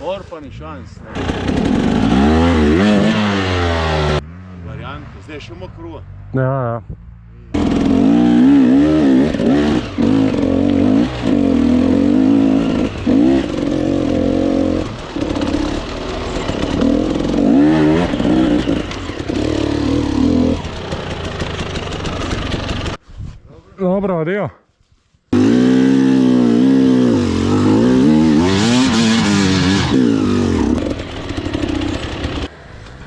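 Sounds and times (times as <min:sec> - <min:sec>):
dirt bike engine revving: 0:01.1 - 0:05.0, 0:07.5 - 0:23.0, 0:25.3 - 0:32.5.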